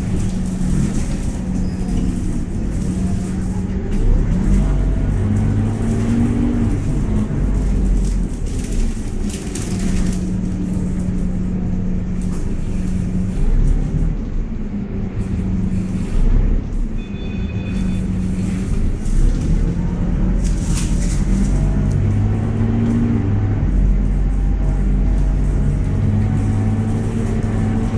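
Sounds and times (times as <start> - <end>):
bus engine running: 0.0 - 27.9.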